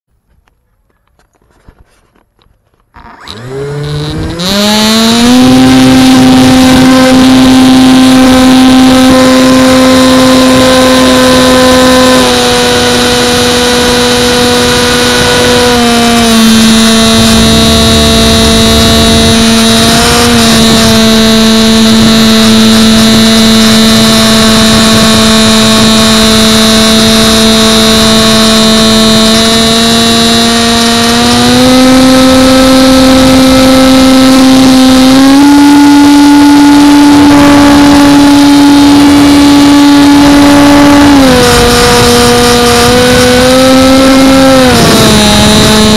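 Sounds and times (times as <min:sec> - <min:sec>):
model airplane motor whine: 0:02.8 - 0:45.9.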